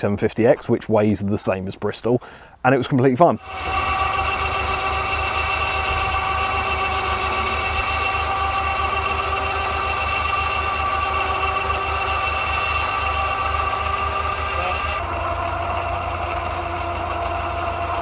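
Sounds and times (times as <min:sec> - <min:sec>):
electric winch whining: 0:03.4 - 0:18.0.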